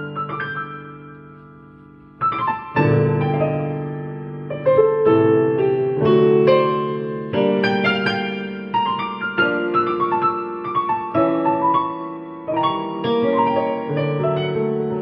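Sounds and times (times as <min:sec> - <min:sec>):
digital piano chords and melody: 0:00.0 - 0:15.0.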